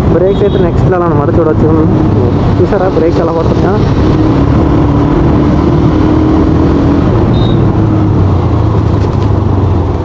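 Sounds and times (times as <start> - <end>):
wind rush on microphone: 0.0 - 10.0
motorcycle engine slowing: 2.0 - 10.0.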